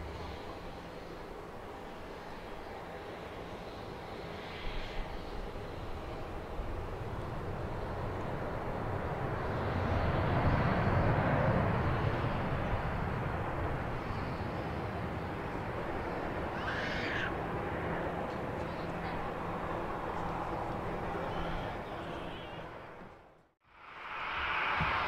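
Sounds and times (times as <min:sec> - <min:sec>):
jet engine rumble: 0:00.0 - 0:25.0.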